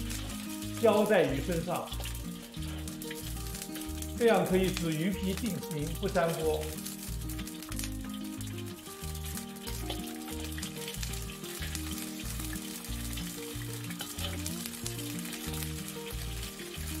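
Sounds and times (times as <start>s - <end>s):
background music: 0.0s - 17.0s
hot oil sizzling in a wok: 0.0s - 17.0s.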